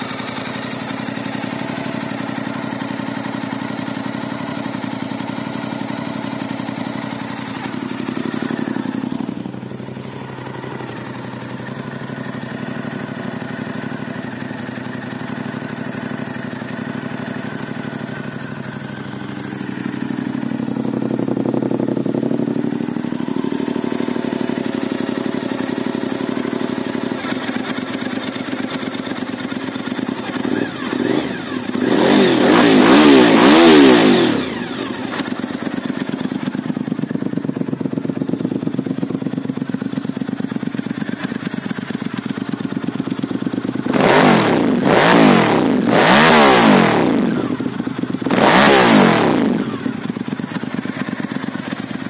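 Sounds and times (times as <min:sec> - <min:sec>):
motorcycle engine idling and revving: 0:00.0 - 0:52.0.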